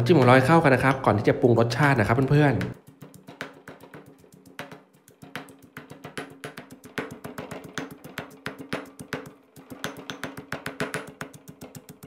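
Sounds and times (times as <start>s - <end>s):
stone pestle pounding in mortar: 0.0s - 12.0s.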